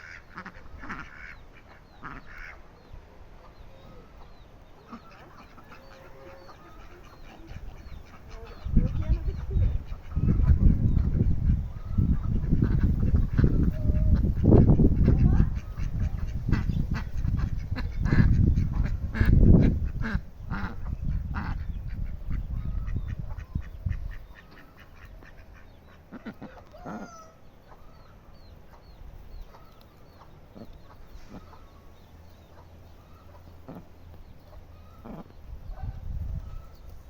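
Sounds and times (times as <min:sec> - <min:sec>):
waterfowl calling: 0:00.0 - 0:02.7, 0:03.4 - 0:36.8.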